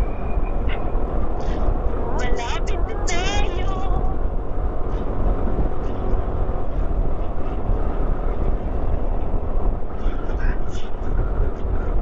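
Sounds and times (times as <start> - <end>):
low engine and road rumble: 0.0 - 12.0
wind rush over microphone: 0.0 - 12.0.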